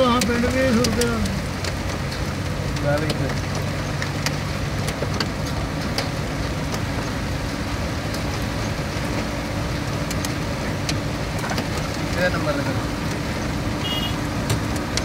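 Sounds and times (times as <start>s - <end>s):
low engine hum: 0.0s - 15.0s
wind and road noise: 0.0s - 15.0s.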